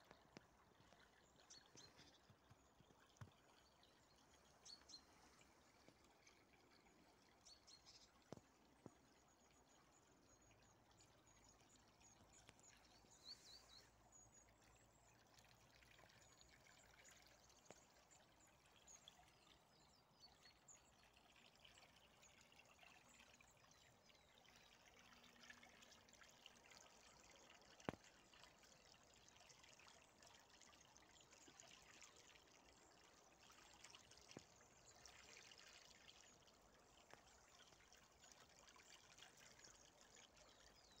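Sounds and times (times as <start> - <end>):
river trickling and burbling: 0.0 - 41.0.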